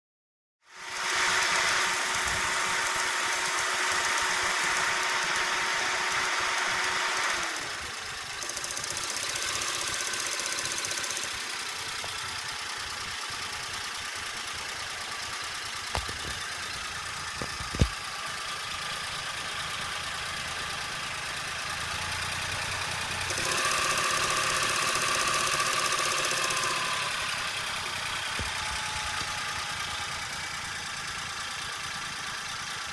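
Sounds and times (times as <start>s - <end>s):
three-cylinder engine running: 0.7s - 32.9s
rolling rattle from engine: 1.0s - 32.9s.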